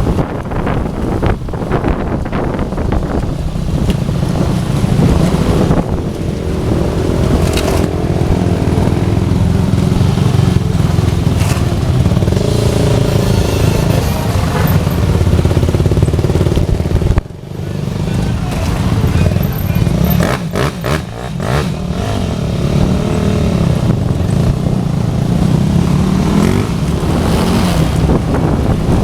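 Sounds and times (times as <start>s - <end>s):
motorcycle engines rumbling: 0.0s - 29.0s
higher engine tone: 5.0s - 29.0s.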